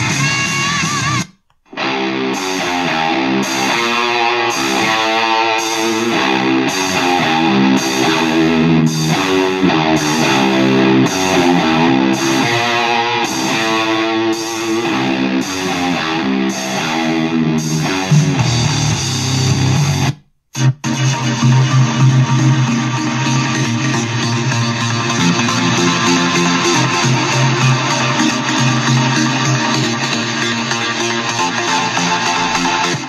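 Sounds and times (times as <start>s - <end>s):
rock music on radio: 0.0s - 33.0s.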